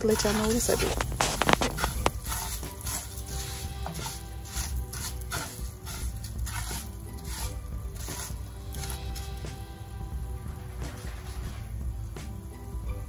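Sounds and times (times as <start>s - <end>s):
stirring scrapes: 0.0s - 11.9s
faint music: 0.0s - 13.0s
rice sizzling in skillet: 0.0s - 13.0s.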